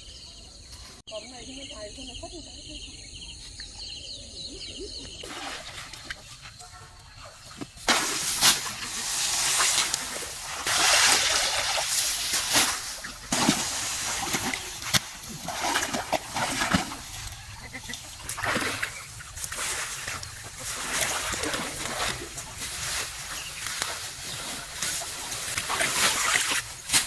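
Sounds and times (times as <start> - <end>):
water splashing and sloshing: 5.0 - 27.0.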